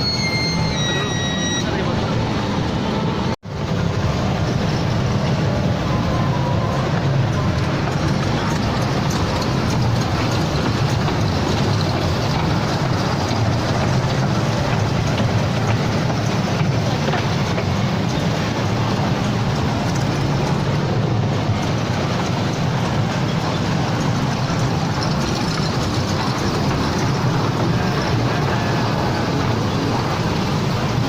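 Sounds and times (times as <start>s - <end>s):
ride-on train rumbling: 0.0s - 31.0s.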